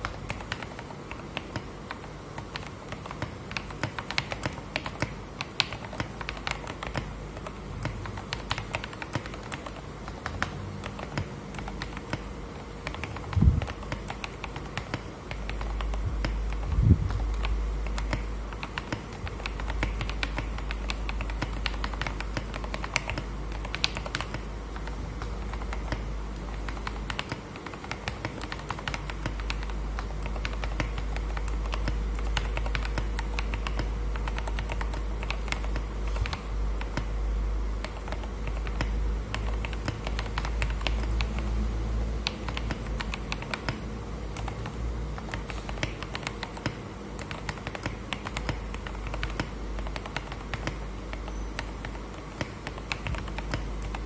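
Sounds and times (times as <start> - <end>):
mechanical keyboard typing: 0.0 - 54.0
steady low hum: 0.0 - 54.0.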